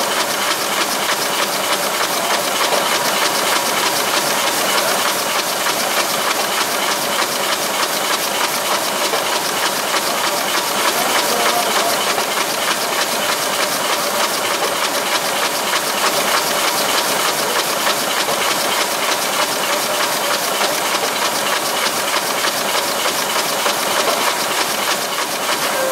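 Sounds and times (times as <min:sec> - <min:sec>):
printing press clattering: 0:00.0 - 0:25.9.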